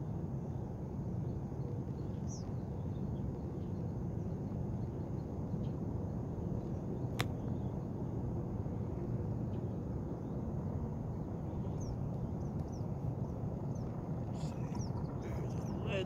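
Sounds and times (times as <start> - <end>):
low outdoor rumble on water: 0.0 - 16.0.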